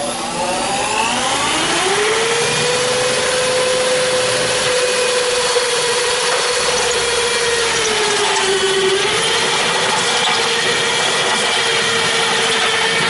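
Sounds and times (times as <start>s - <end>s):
electric drill motor whine: 0.0s - 13.0s.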